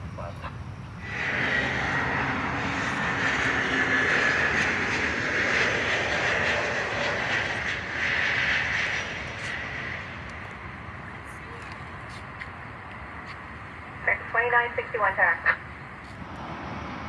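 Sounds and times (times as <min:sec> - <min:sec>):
jet airliner passing low: 0:00.0 - 0:17.0.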